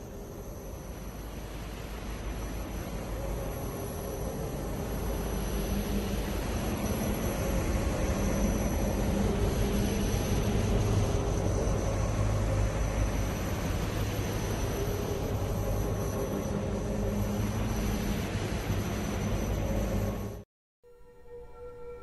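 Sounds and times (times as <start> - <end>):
deep noisy drone: 1.4 - 20.4.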